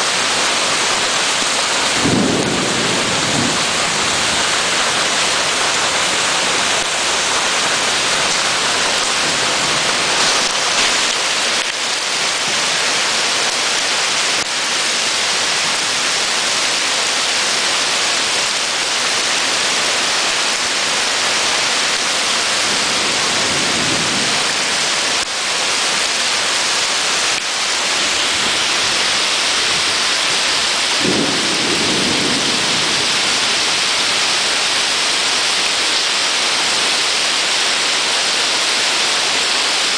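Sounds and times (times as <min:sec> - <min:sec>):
heavy rain pouring on pavement: 0:00.0 - 0:39.9.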